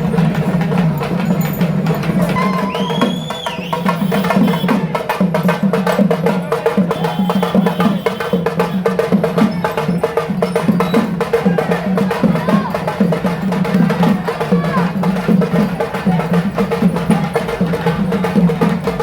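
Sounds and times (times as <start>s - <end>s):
fast drumming: 0.0s - 19.0s.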